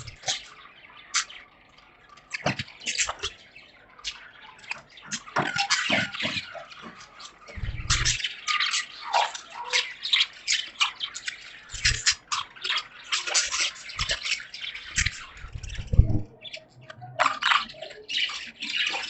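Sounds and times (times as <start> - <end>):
budgies chirping: 0.0 - 19.0.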